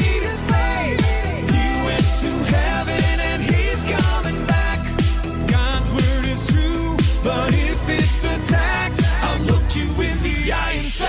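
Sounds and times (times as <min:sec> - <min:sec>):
electronic kick drum: 0:00.0 - 0:10.0
upbeat pop music: 0:00.0 - 0:11.0.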